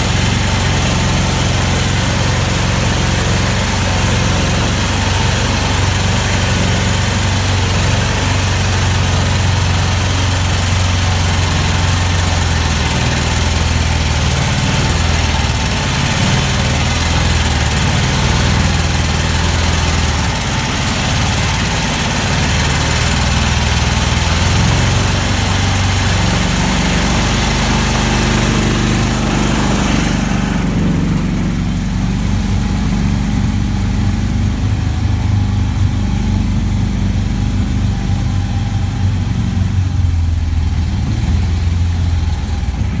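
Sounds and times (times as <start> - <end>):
vehicle engine under load: 0.0 - 43.0.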